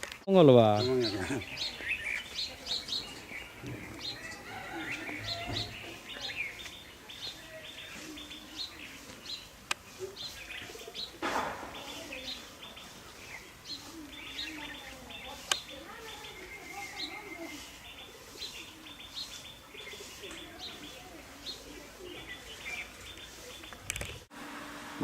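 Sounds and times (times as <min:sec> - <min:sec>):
small birds chirping: 0:00.3 - 0:24.3.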